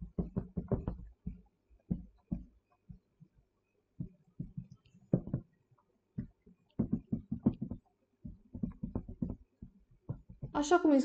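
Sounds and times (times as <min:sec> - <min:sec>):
marker writing on whiteboard: 0:00.0 - 0:05.6, 0:06.2 - 0:10.8.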